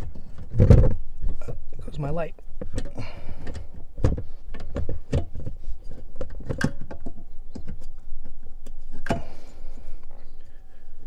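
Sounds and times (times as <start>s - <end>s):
clicks and rattles of metal housing: 0.0s - 11.0s.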